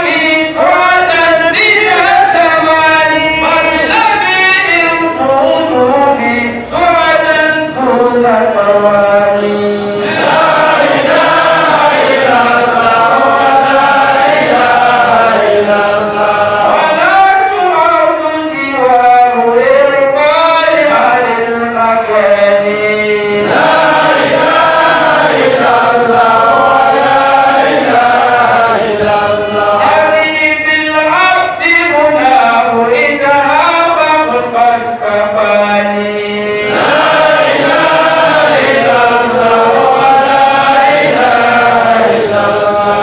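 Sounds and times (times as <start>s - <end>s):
man chanting into microphone: 0.0s - 43.0s.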